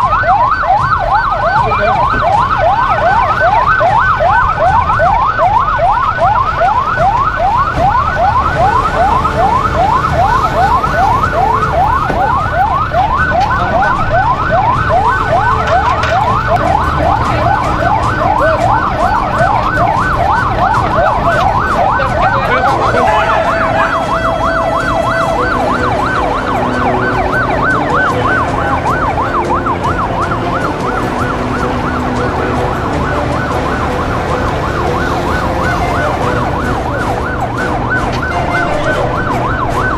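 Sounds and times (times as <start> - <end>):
electronic siren yelping: 0.0 - 39.9.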